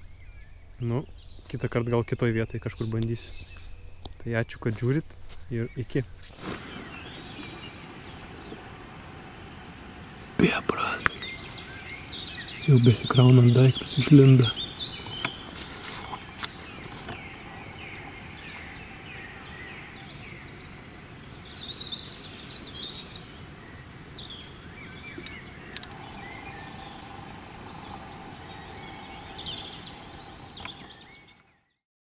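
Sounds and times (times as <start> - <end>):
low outdoor rumble: 0.0 - 31.2
songbirds singing: 0.0 - 31.8.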